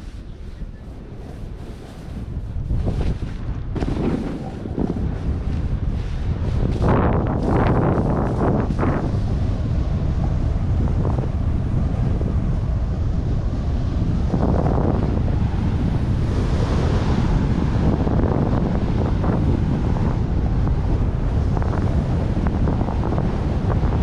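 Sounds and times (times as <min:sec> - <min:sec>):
low rumble: 0:00.0 - 0:24.0
wind buffeting microphone: 0:00.0 - 0:24.0.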